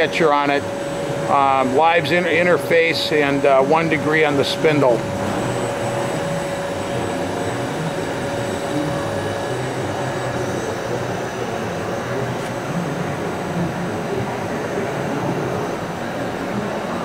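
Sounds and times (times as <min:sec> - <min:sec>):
faint machine whine: 0:00.0 - 0:17.0
lathe humming: 0:00.0 - 0:17.0.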